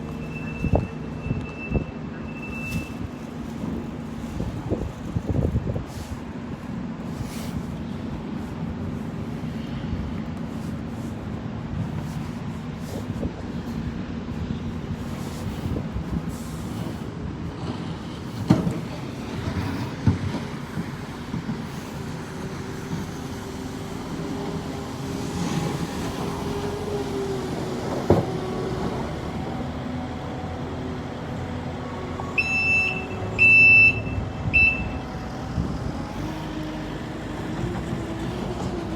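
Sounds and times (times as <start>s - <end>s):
heavy vehicle engine rumbling: 0.0s - 38.9s.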